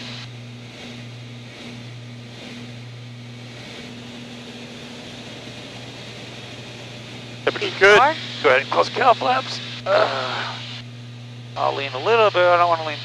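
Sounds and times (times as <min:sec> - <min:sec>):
twin propeller engines droning: 0:00.0 - 0:13.0.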